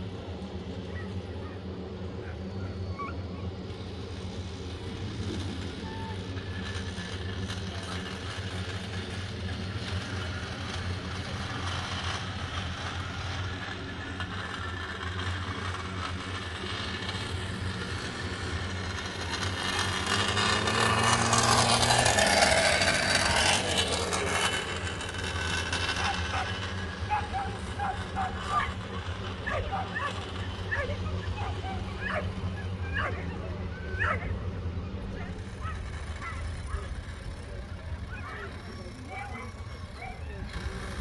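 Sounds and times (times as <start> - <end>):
lure drive motor humming: 0.0 - 41.0.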